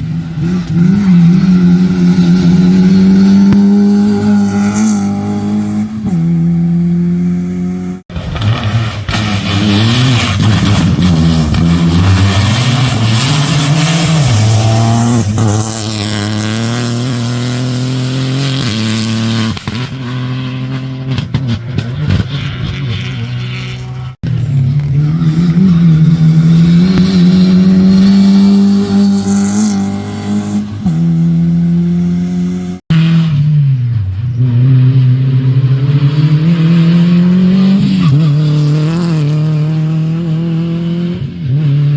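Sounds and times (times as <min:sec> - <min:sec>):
rally car engines revving: 0:00.0 - 0:41.9.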